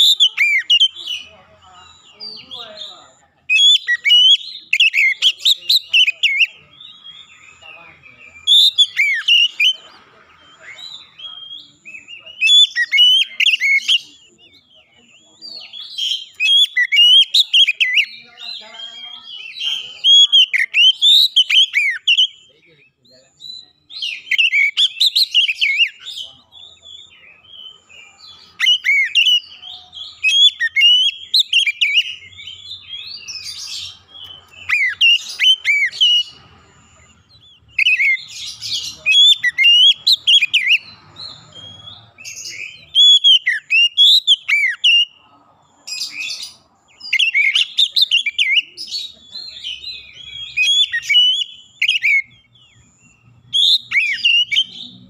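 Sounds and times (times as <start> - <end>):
bird singing whistles: 0.0 - 1.3, 3.5 - 7.6, 8.3 - 9.8, 10.5 - 14.7, 15.6 - 18.2, 18.8 - 22.6, 23.4 - 26.2, 28.6 - 36.4, 37.2 - 45.2, 46.1 - 55.0.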